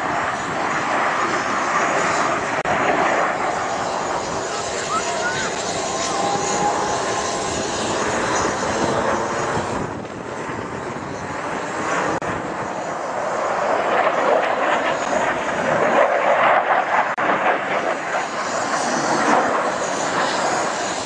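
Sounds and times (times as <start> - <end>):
jet aircraft roaring past: 0.0 - 21.0.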